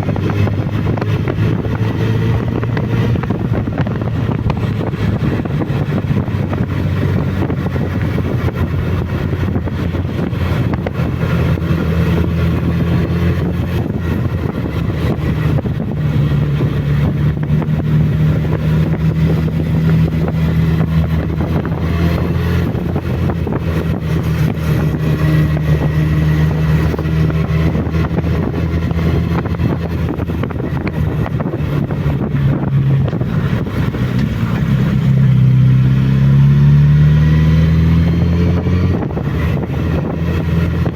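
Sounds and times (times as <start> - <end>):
motorcycle engine while riding: 0.0 - 40.9
wind rushing over microphone: 0.0 - 40.9.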